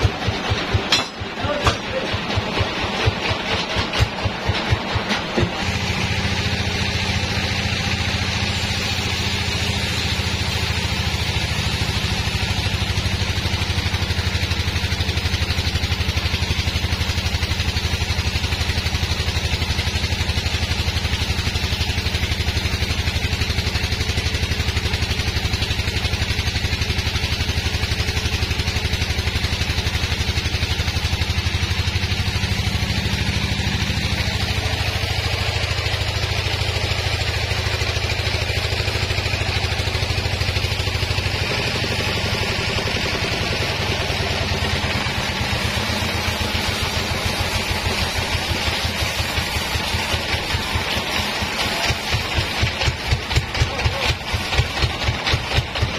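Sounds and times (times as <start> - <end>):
sawmill machine drone: 0.0 - 55.9.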